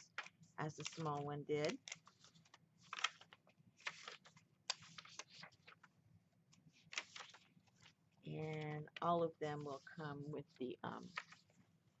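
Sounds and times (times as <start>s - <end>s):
paper pages rustling: 0.0s - 12.0s.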